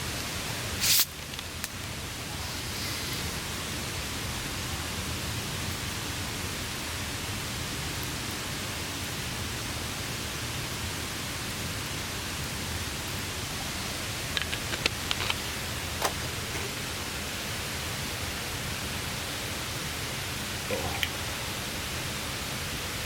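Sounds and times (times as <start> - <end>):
rain on a tarp: 0.0 - 23.0.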